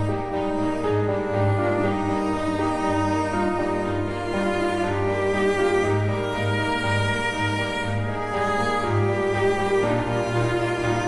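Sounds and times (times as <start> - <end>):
slow bowed string music: 0.0 - 11.0.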